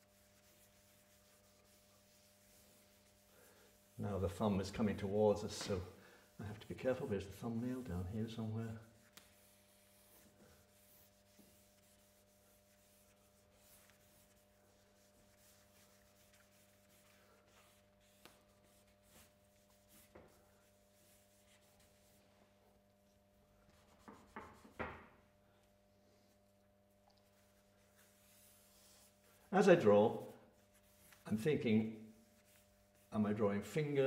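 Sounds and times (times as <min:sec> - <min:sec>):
charcoal scratching on paper: 0:00.0 - 0:05.8, 0:06.6 - 0:22.2, 0:23.7 - 0:25.0, 0:27.3 - 0:31.3, 0:32.0 - 0:33.2.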